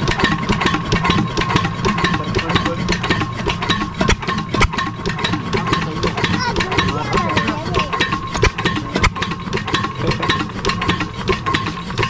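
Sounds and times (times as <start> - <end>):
diesel engine knocking: 0.0 - 12.0.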